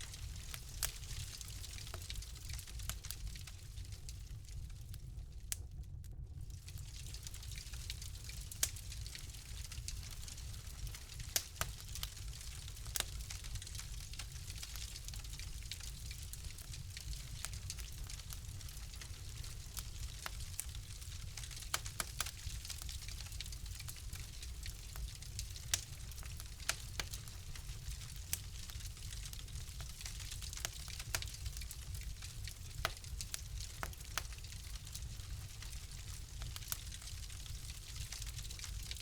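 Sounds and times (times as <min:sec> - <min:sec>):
fire crackling in fireplace: 0:00.0 - 0:39.0.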